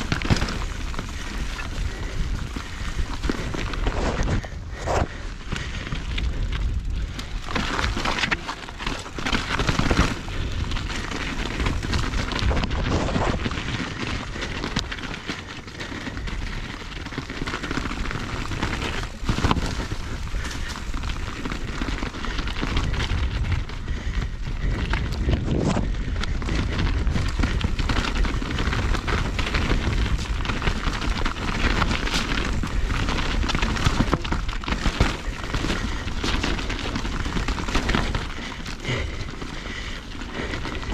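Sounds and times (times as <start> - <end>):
bike tyres crunching on rocky trail: 0.0 - 40.9
wheels knocking on rocks: 0.0 - 40.9
wind rumble on microphone: 0.0 - 40.9.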